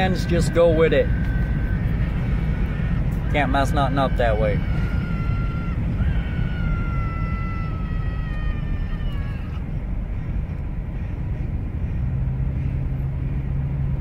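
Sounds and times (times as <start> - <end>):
road and engine rumble in car cabin: 0.0 - 14.0.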